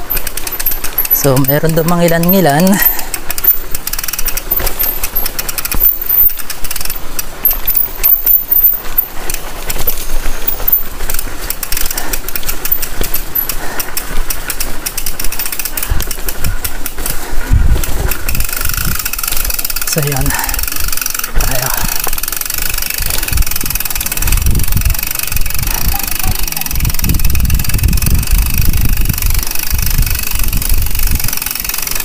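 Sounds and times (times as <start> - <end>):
bicycle rattling on dirt path: 0.0 - 32.0.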